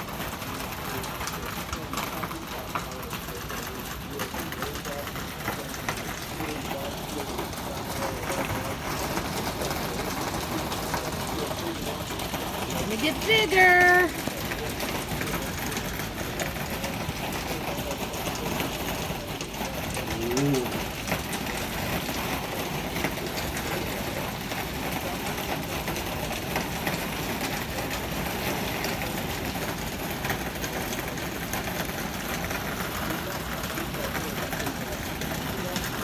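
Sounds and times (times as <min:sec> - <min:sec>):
hailstones striking: 0:00.0 - 0:36.0
heavy rain hissing: 0:00.0 - 0:36.0.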